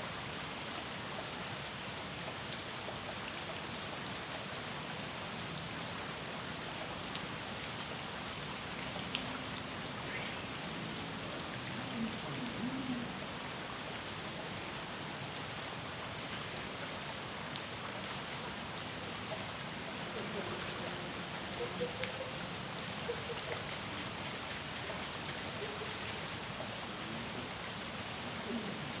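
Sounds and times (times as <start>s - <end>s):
rain falling on a pond: 0.0s - 29.0s.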